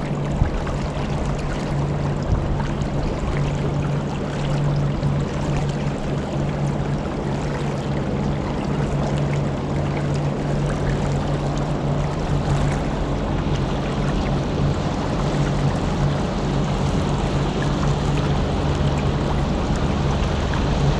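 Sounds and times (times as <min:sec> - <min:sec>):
boat motor humming: 0:00.0 - 0:20.9
water rushing: 0:00.0 - 0:20.9
wind: 0:00.0 - 0:20.9.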